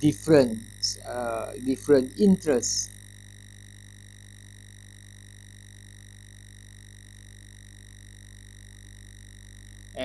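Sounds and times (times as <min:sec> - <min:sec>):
electrical hum: 0:00.0 - 0:10.0
faint high whine: 0:00.0 - 0:10.0.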